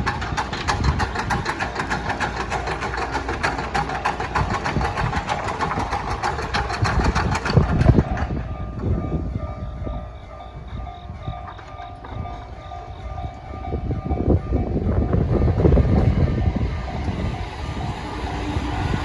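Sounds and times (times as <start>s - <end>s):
wheels clattering on rails: 0.0s - 19.0s.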